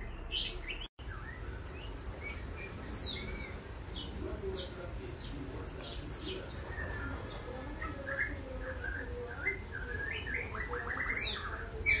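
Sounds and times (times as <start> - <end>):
songbird chirping and singing: 0.0 - 12.0.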